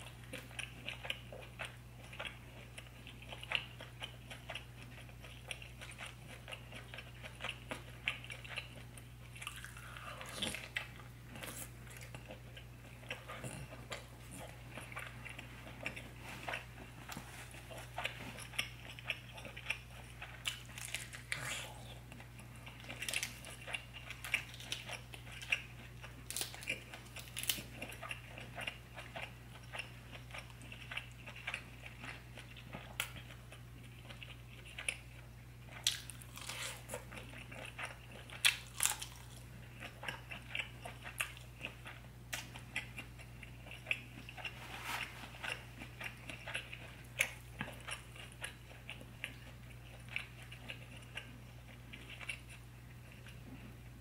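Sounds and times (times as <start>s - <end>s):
chewing and biting food: 0.0s - 54.0s
steady low hum: 0.0s - 54.0s.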